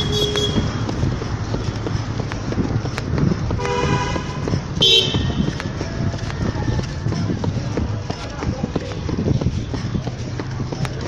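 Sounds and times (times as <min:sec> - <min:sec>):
steady outdoor rumble: 0:00.0 - 0:11.0.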